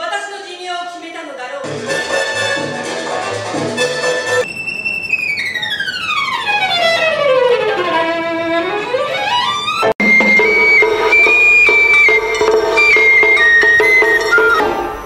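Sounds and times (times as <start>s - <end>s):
music with held high notes: 1.7s - 7.8s, 8.9s - 15.0s
violin glissando: 1.7s - 15.0s.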